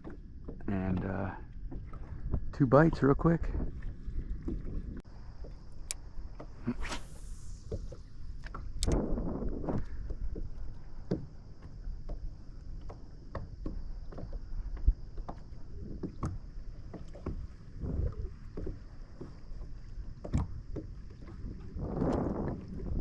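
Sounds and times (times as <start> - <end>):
light knocks and clicks from boat: 0.0 - 6.7, 7.6 - 23.0
water lapping against boat hull: 0.0 - 6.7, 7.5 - 23.0.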